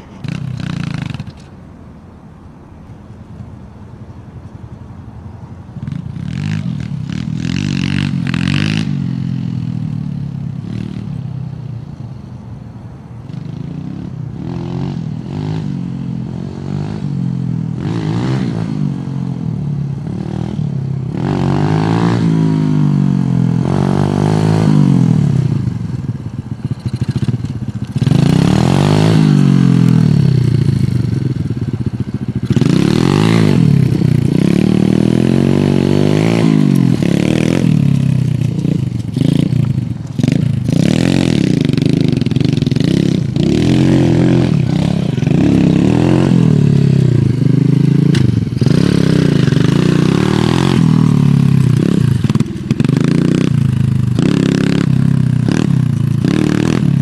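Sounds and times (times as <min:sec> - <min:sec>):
minibike engine revving: 0:00.0 - 0:01.6, 0:05.8 - 0:12.2, 0:13.2 - 0:57.0.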